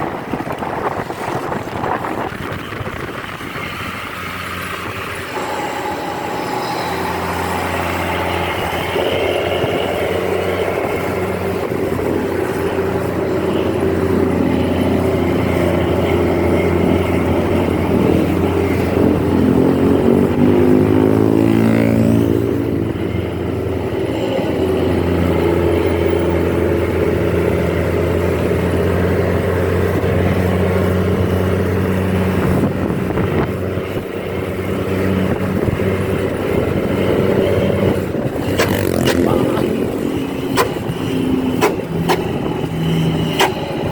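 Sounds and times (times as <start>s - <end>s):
bus engine droning: 0.0s - 43.9s.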